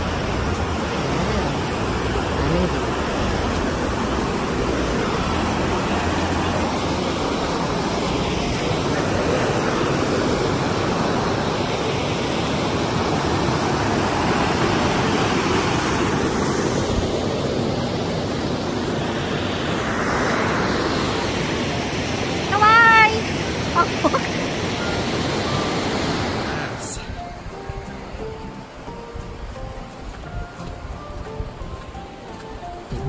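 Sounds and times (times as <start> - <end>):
creek rushing over rocks: 0.0 - 33.0.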